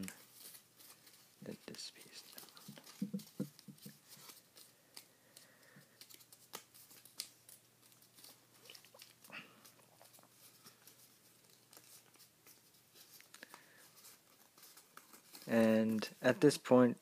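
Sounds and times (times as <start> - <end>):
paper rustling and crinkling: 0.0 - 16.6.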